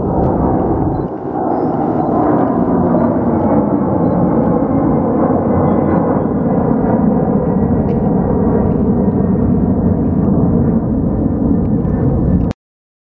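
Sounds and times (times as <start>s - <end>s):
jet engines rumbling overhead: 0.0s - 12.6s.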